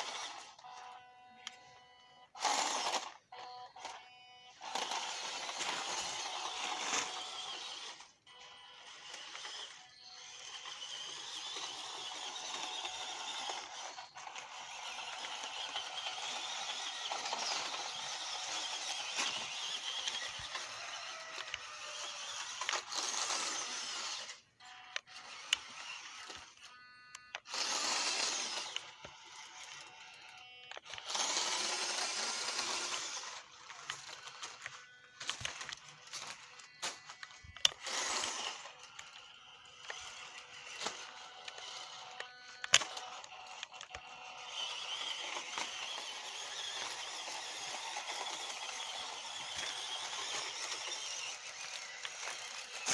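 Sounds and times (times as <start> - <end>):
toy truck electric motor whining: 0.0 - 52.9.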